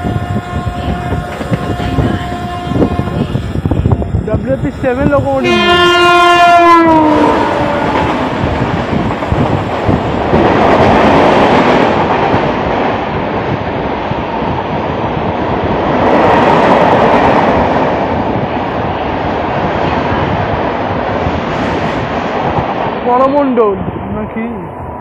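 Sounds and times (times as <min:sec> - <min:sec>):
rushing air: 0:00.0 - 0:25.0
train wheels rumbling and clattering: 0:00.0 - 0:25.0.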